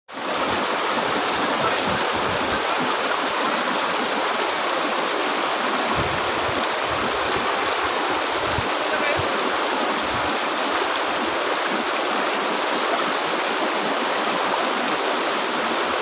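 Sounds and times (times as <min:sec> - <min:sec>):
river babbling over rocks: 0:00.1 - 0:16.0.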